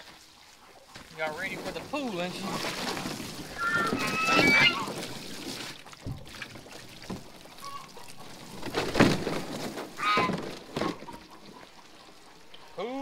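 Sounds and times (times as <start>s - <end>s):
leaves rustling: 0.0s - 5.9s, 6.5s - 12.9s
plastic pool thumping: 1.0s - 11.6s.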